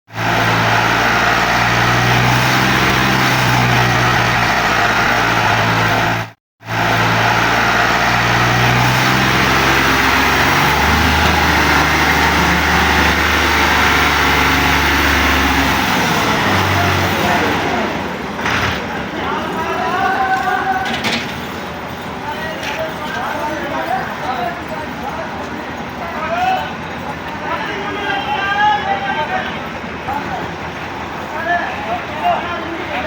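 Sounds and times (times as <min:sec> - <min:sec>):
tractor engine running under load: 0:00.1 - 0:33.0.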